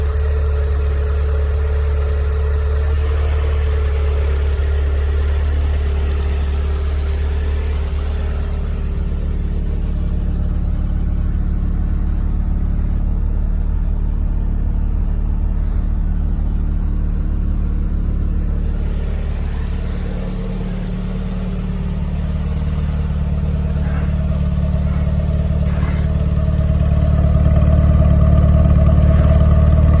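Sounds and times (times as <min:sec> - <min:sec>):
turbocharged car engine running: 0:00.0 - 0:30.0.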